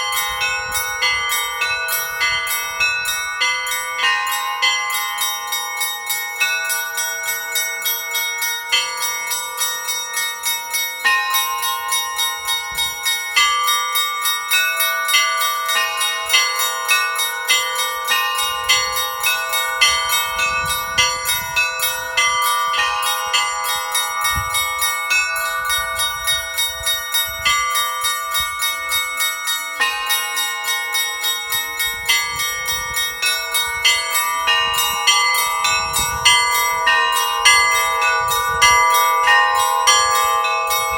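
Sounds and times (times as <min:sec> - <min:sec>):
large bells ringing: 0:00.0 - 0:40.9
small church bells striking: 0:00.0 - 0:40.9.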